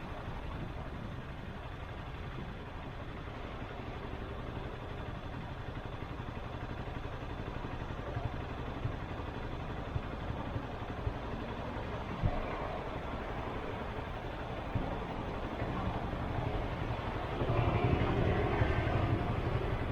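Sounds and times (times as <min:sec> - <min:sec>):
road and wind noise: 0:00.0 - 0:19.9.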